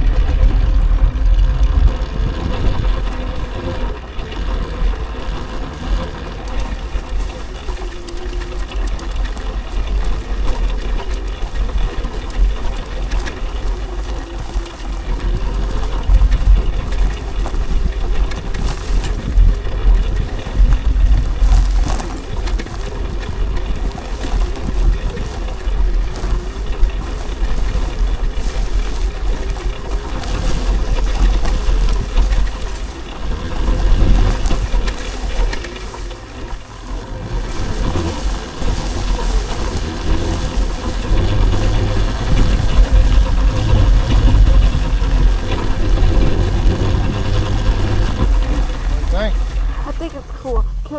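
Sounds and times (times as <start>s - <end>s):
electric motor whine: 0.0s - 50.8s
wind buffeting microphone: 0.0s - 50.9s.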